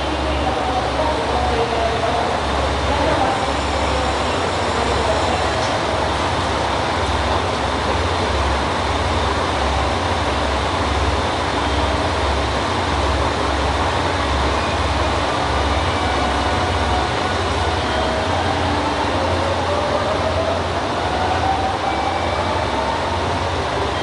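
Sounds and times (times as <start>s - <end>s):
station noise: 0.0s - 24.0s.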